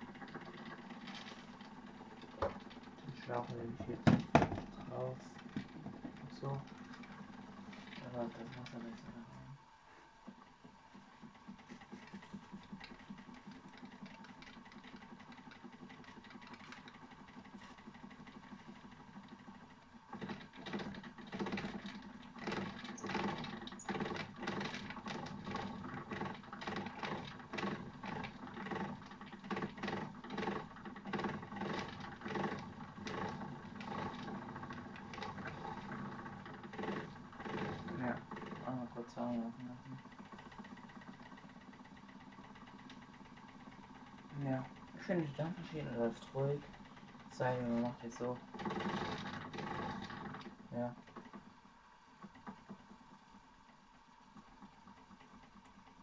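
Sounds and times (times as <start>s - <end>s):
toy steam engine running: 0.0s - 9.2s, 11.2s - 51.4s.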